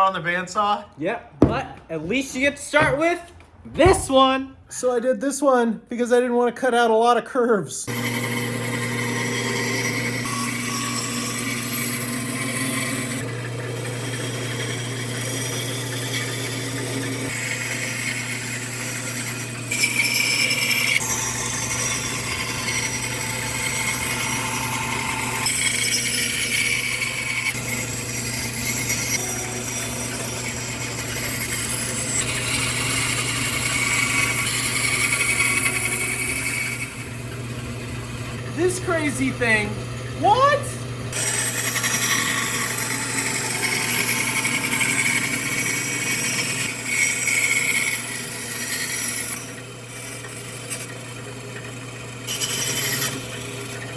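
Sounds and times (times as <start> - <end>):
bandsaw cutting wood: 7.9 - 53.9.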